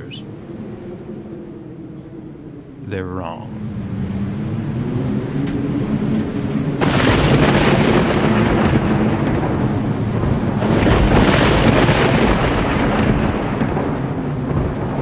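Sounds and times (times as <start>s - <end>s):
thunder rolling: 2.7s - 15.0s.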